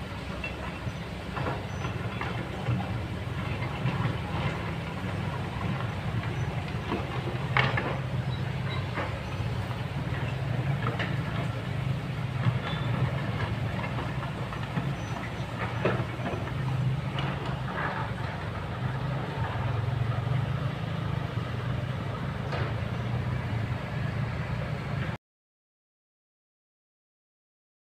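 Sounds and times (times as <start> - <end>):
excavator diesel engine running: 0.0 - 25.2.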